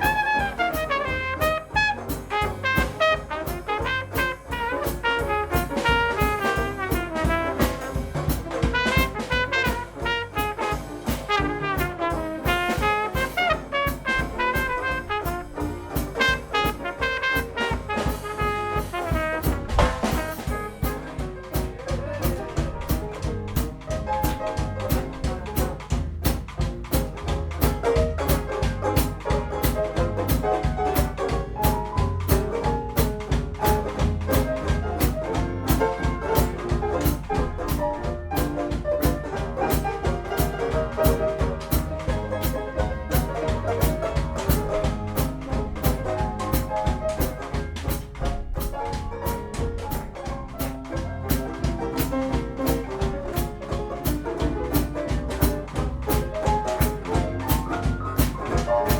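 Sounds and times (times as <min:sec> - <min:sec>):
trumpet lead: 0:00.0 - 0:54.4
banjo: 0:00.0 - 0:58.9
drum kit: 0:00.0 - 0:58.9
piano: 0:00.0 - 0:58.9.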